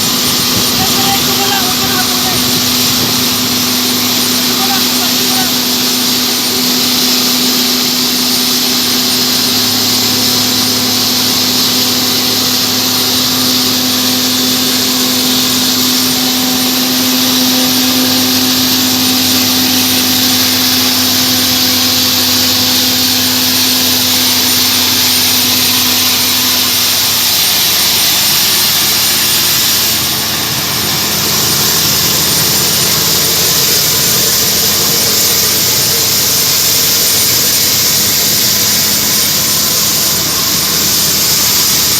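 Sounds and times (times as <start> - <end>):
jet engines roaring with whine: 0.0 - 41.9.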